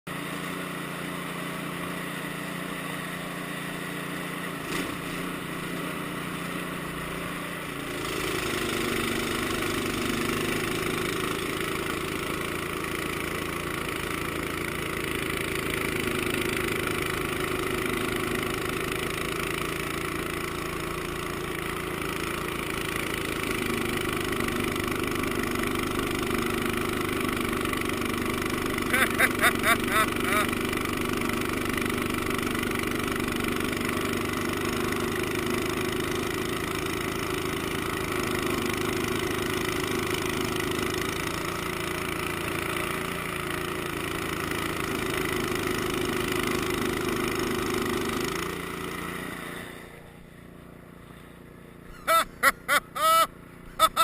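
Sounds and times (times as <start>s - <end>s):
snow blower engine running: 0.1s - 54.0s.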